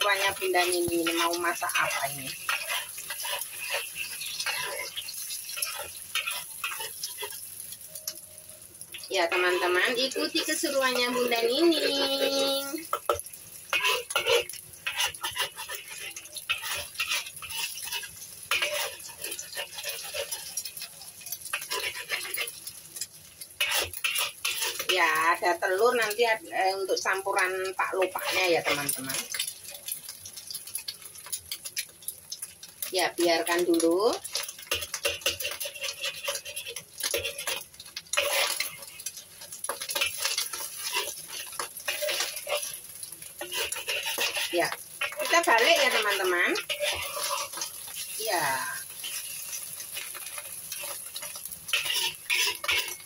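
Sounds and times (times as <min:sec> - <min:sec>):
metal spatula scraping wok: 0:00.0 - 0:08.1, 0:09.0 - 0:53.0
hot oil sizzling: 0:00.0 - 0:53.0.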